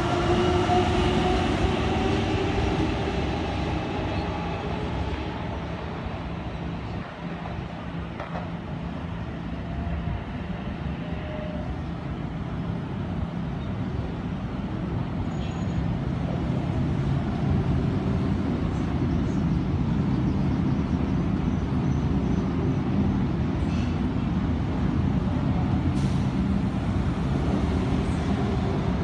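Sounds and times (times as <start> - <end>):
train rumble and motor hum: 0.0 - 29.0.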